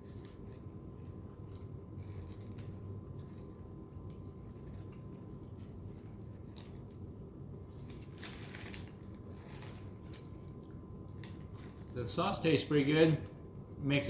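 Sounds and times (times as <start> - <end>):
low steady hum: 0.0 - 14.0
chewing crispy food: 0.1 - 12.0.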